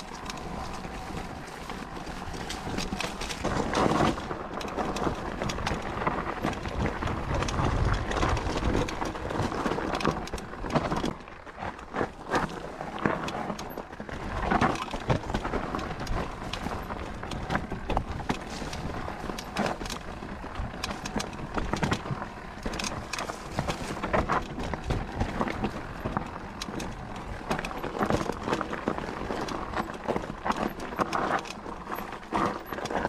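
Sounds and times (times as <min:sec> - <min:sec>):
bike rattling and knocking: 0:00.0 - 0:33.0
bike tyres on dirt and stones: 0:00.0 - 0:33.0.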